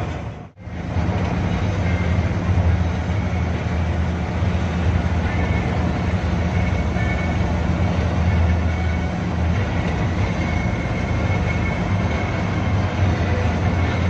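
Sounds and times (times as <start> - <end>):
bus engine drone: 0.0 - 14.0
tyre and road noise: 0.0 - 14.0.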